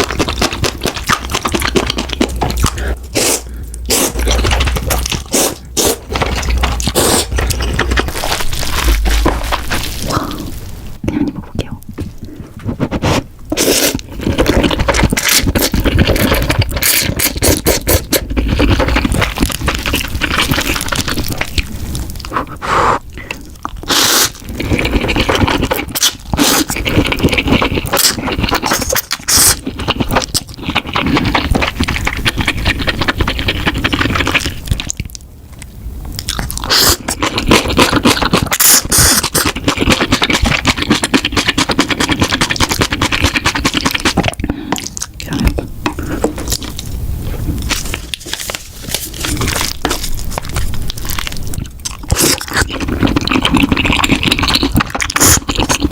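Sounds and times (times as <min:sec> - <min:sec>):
noodles being slurped: 0:00.0 - 0:11.2, 0:12.6 - 0:35.0, 0:36.2 - 0:55.9
wet chewing clicks: 0:00.0 - 0:47.0, 0:47.6 - 0:55.9.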